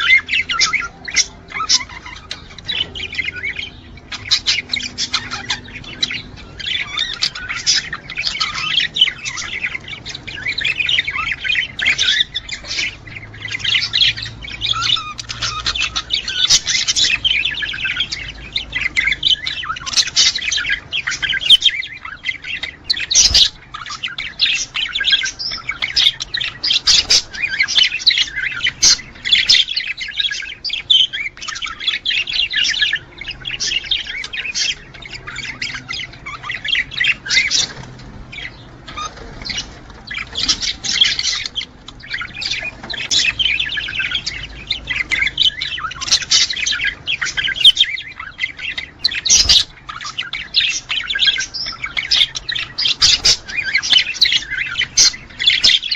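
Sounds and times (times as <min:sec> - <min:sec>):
budgerigars chattering and warbling: 0:00.0 - 0:55.9.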